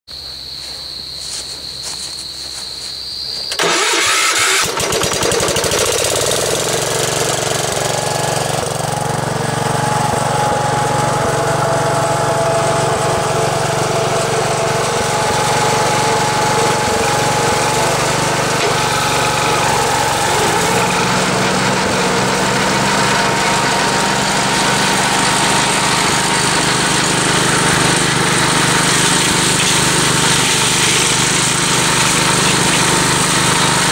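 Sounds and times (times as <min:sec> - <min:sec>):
tractor engine running: 0:01.2 - 0:33.9.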